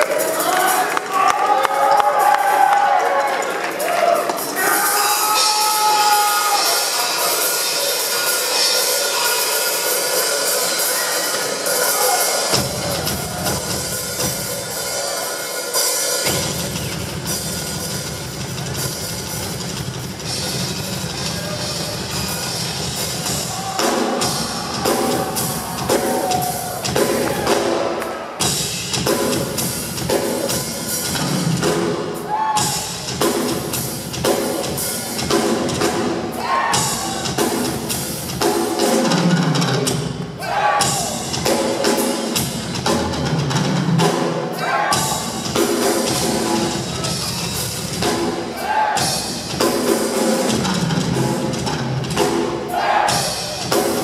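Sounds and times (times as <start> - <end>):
fast drum kit solo: 3.6 - 54.0.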